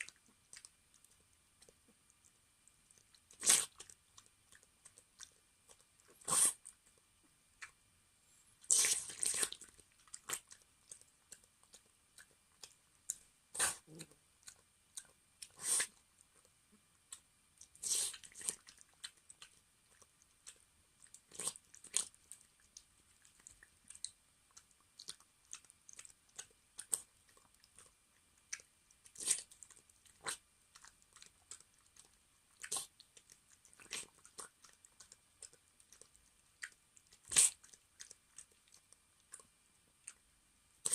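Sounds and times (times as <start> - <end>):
dog crunching and chewing food: 0.0 - 7.0, 8.6 - 40.2.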